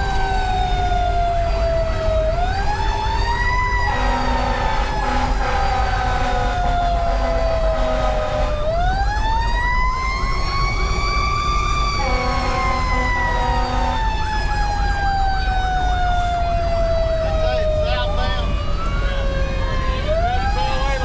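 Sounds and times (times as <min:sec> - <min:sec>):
diesel engine drone: 0:00.0 - 0:21.0
fire engine siren winding: 0:00.0 - 0:21.0.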